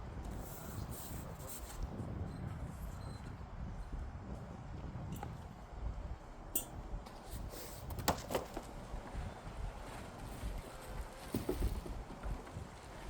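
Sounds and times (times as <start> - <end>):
wind rumble on microphone: 0.0 - 8.0, 8.6 - 13.0.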